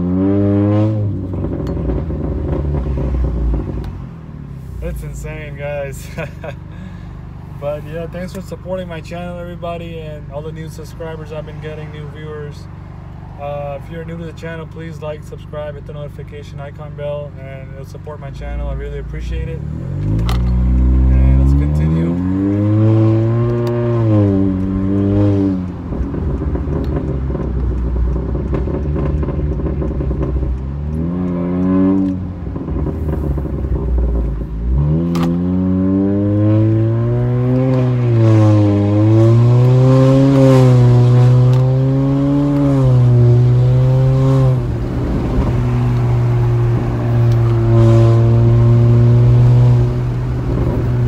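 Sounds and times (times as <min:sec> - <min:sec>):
car engine revving: 0:00.0 - 0:14.6, 0:17.8 - 0:51.0.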